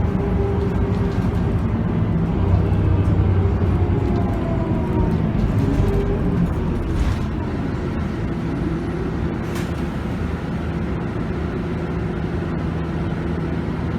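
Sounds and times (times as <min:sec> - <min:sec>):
bus diesel engine running: 0:00.0 - 0:13.9.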